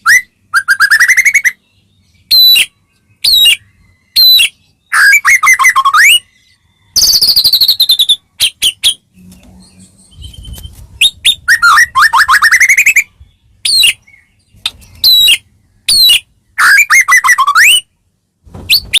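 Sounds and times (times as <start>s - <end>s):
songbird whistling song: 0.0s - 19.0s.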